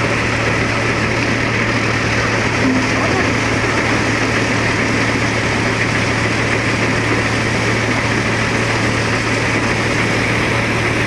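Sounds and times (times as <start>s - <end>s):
constant low hum: 0.0s - 11.0s
thresher machine running: 0.0s - 11.0s.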